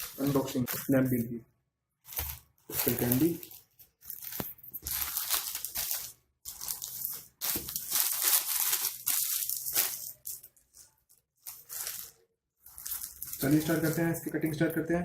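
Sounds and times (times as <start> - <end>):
parcel packaging crinkling: 2.0 - 14.8.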